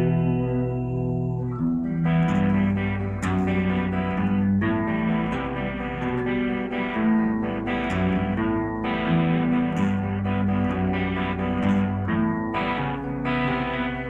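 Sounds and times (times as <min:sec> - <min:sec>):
guitar playing chords: 0:00.0 - 0:14.0
person singing: 0:00.0 - 0:14.0.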